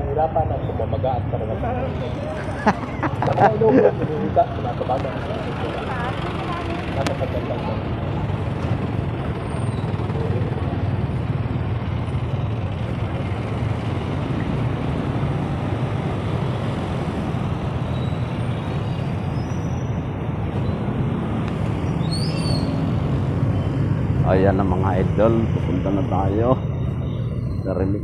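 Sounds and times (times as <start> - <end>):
truck and motorcycle engines rumbling: 0.0 - 28.0.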